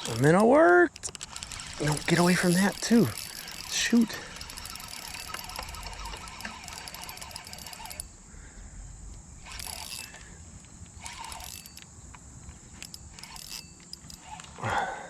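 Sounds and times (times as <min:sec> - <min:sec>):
fishing reel clicking: 0:00.0 - 0:08.2, 0:09.4 - 0:14.6.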